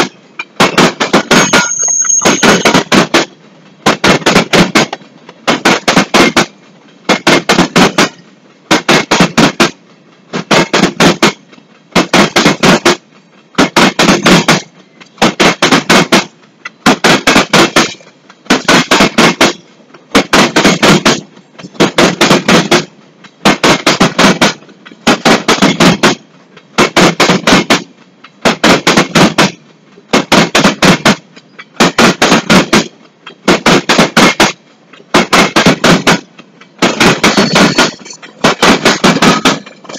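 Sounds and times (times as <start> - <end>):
train wheels clacking over rail joint: 0.0 - 39.9.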